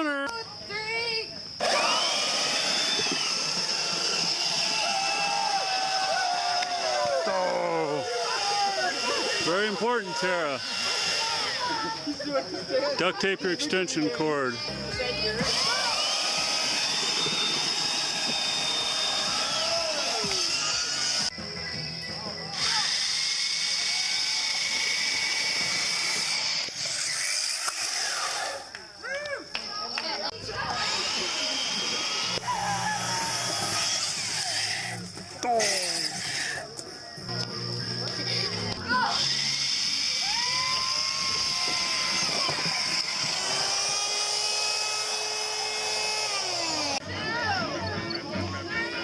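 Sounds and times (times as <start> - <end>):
electric belt sander running: 1.6 - 12.4, 13.0 - 21.4, 22.5 - 28.8, 30.3 - 47.0.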